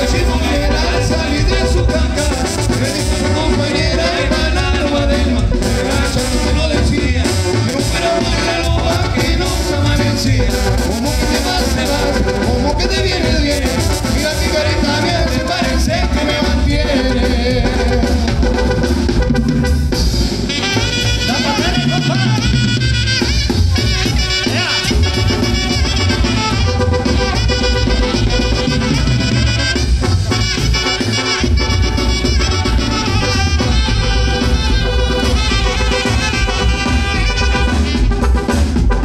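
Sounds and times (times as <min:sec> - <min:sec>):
bass drum beat: 0:00.0 - 0:39.0
brass band dance music: 0:00.0 - 0:39.0.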